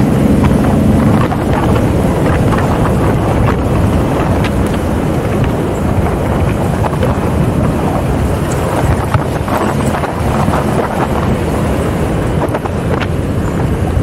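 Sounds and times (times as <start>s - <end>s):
engine and tyre noise: 0.0s - 14.0s
wind buffeting microphone: 0.0s - 14.0s.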